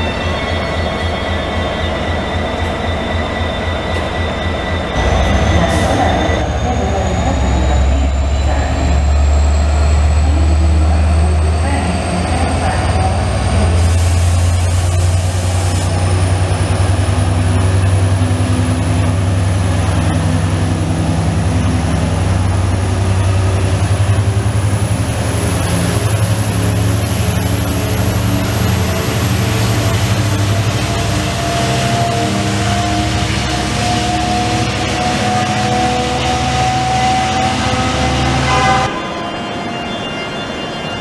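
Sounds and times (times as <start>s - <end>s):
electric locomotive humming: 0.0s - 41.0s
traction equipment whining: 0.0s - 41.0s.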